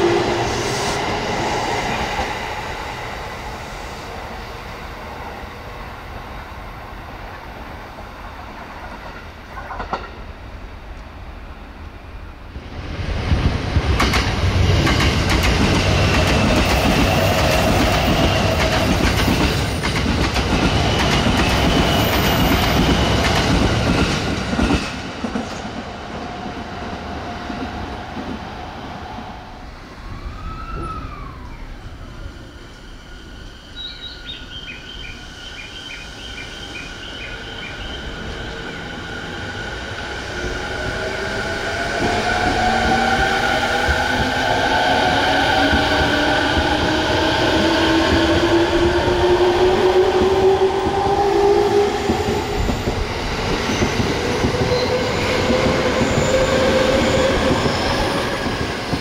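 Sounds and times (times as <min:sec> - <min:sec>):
approaching train whine: 0:00.0 - 0:59.0.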